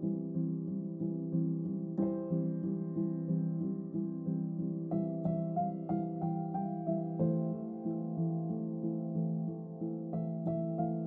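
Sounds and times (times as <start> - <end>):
gentle melody over held chords: 0.0 - 11.0.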